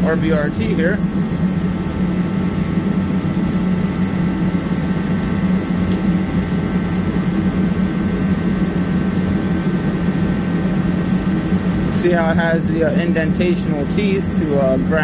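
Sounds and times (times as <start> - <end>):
heater hum and blower: 0.0 - 15.0.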